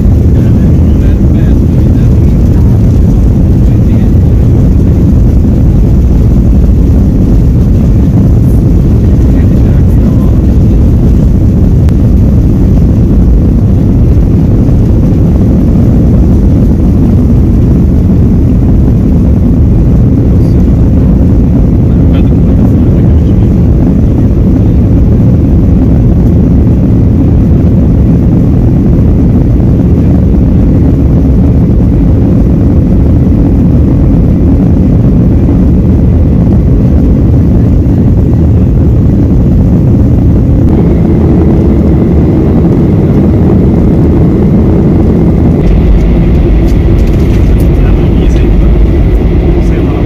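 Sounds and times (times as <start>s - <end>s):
faint high whine: 0.0s - 50.0s
jet engines and airflow rushing: 0.0s - 50.0s.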